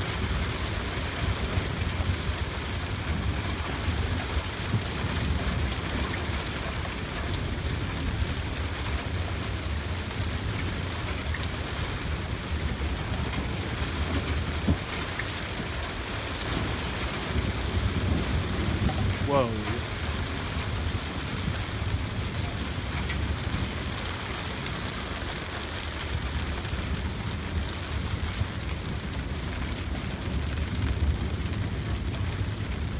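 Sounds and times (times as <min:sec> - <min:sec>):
steady rain: 0:00.0 - 0:32.9.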